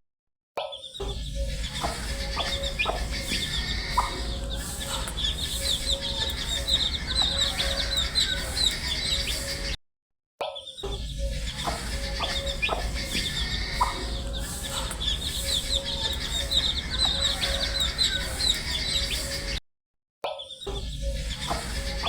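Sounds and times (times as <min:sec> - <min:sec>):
baby chicks peeping: 0:01.1 - 0:09.8, 0:10.9 - 0:19.6, 0:20.6 - 0:22.0
steady low hum: 0:01.1 - 0:09.8, 0:10.9 - 0:19.6, 0:20.8 - 0:22.0.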